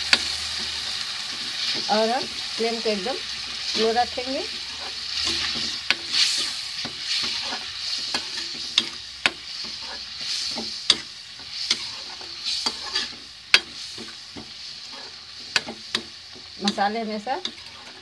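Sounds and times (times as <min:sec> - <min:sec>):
spice paste sizzling in oil: 0:00.0 - 0:18.0
spatula scraping a pan: 0:03.3 - 0:18.0.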